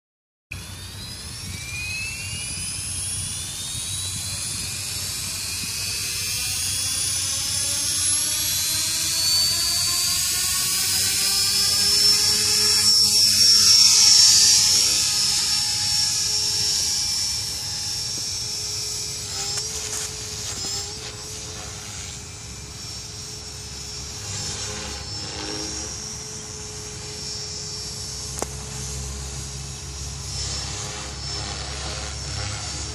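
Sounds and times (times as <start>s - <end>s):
electric helicopter rotor whine: 0.5s - 32.9s.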